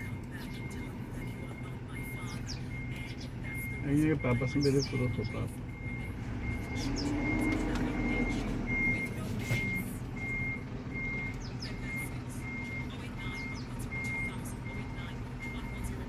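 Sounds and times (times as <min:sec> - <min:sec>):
engine and traffic rumble: 0:00.0 - 0:16.0
reversing alarm beeping: 0:00.0 - 0:16.0.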